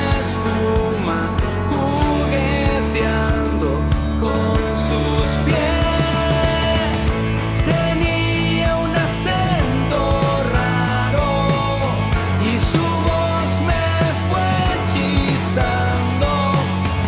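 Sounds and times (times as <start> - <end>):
band song with drums: 0.0 - 17.0
person singing: 0.0 - 17.0.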